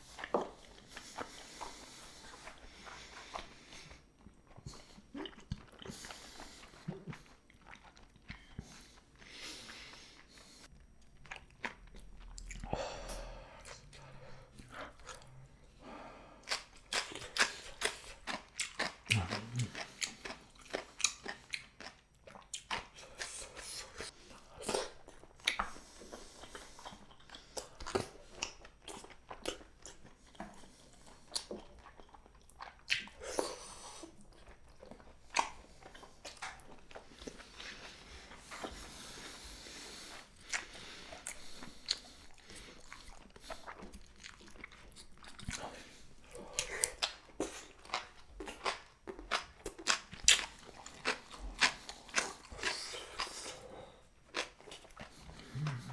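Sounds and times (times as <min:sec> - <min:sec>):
wet chewing with mouth clicks: 0:00.0 - 0:55.9.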